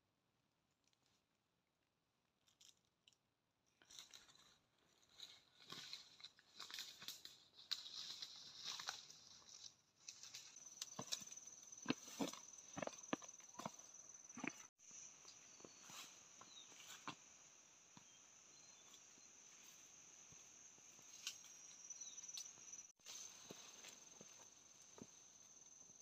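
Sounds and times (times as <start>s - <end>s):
dry leaves and twigs crunching: 3.8s - 25.7s.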